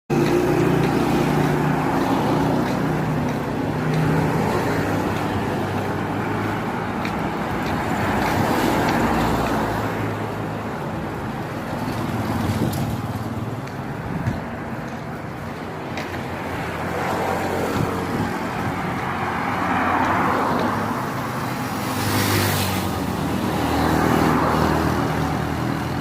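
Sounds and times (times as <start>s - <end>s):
road traffic rush: 0.1s - 26.0s
vehicle engine hum: 0.1s - 26.0s.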